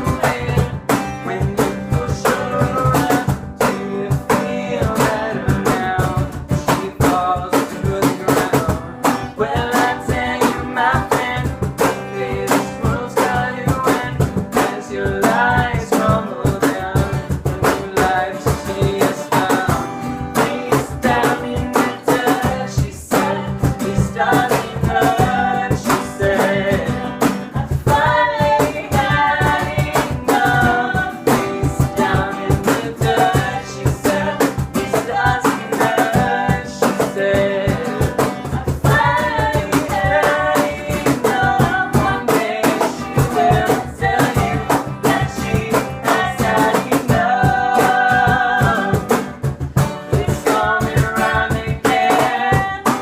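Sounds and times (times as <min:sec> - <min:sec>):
guitar: 0:00.0 - 0:53.0
person singing: 0:00.0 - 0:53.0
steady drum beat: 0:00.0 - 0:53.0.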